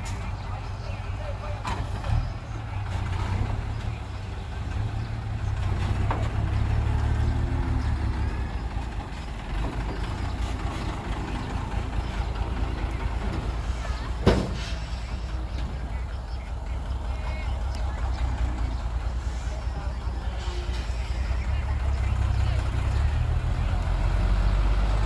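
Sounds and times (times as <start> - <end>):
heavy diesel engine rumbling: 0.0 - 25.0.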